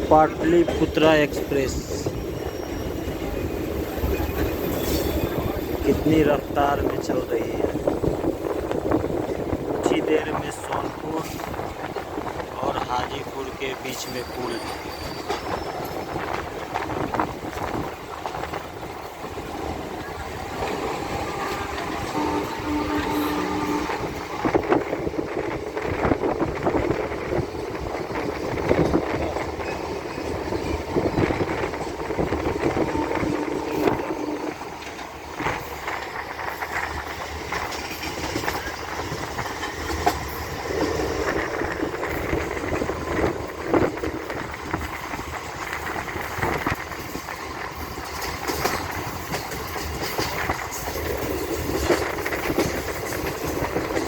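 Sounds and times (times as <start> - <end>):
train rumble and rattle: 0.0 - 54.0
wheels clacking over track: 3.1 - 54.0.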